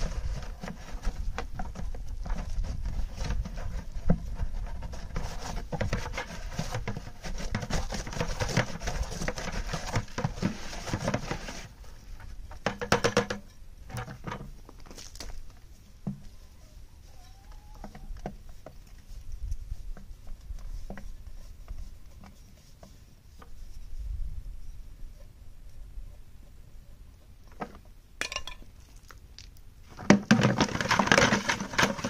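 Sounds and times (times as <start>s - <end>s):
wet clay worked by hand in bucket: 0.0s - 24.1s, 26.1s - 32.0s.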